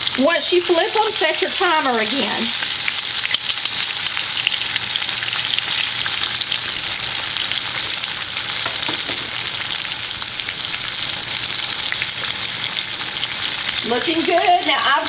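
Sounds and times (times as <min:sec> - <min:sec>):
chicken sizzling in hot oil: 0:00.0 - 0:15.0
oil popping and crackling: 0:00.8 - 0:15.0.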